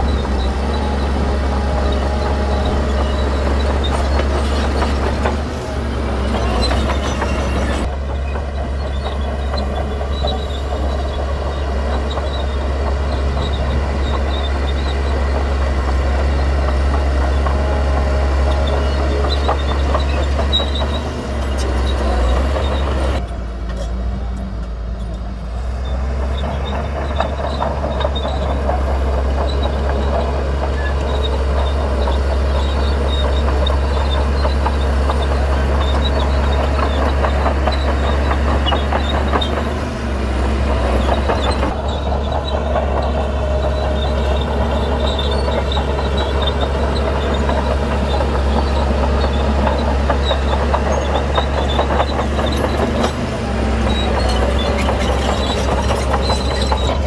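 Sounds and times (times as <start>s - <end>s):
heavy diesel engines drone: 0.0s - 57.0s.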